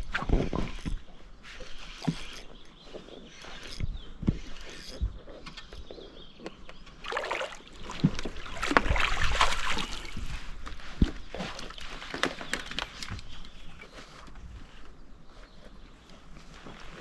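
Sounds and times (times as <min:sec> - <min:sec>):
water sloshing around boat: 0:00.0 - 0:14.8.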